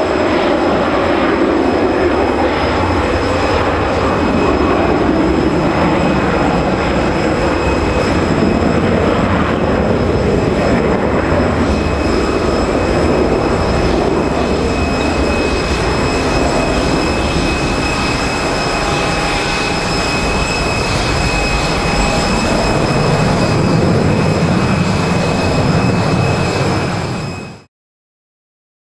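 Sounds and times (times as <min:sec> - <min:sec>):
high-pitched jet whine: 0:00.0 - 0:27.7
jet engines roaring on takeoff: 0:00.0 - 0:27.7.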